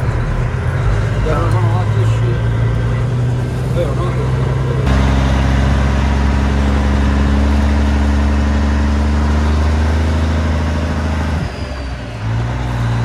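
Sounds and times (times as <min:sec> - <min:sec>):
truck diesel engine drone: 0:00.0 - 0:13.0.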